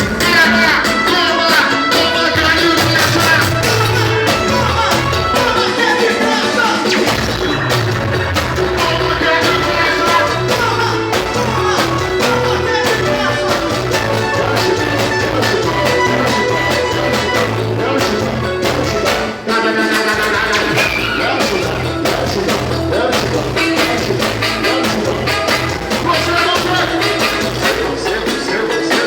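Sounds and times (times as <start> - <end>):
lively music with bass beat: 0.0 - 29.0.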